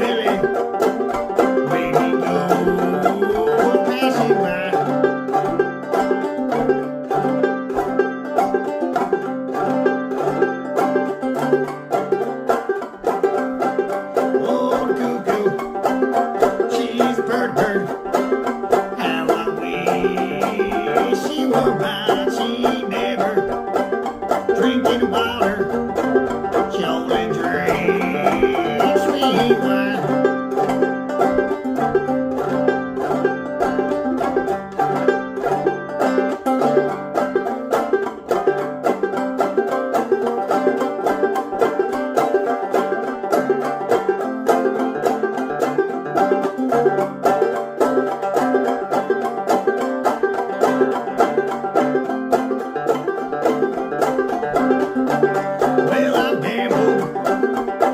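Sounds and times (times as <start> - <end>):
fast bluegrass string picking: 0.0 - 57.9
steady string accompaniment: 0.0 - 57.9.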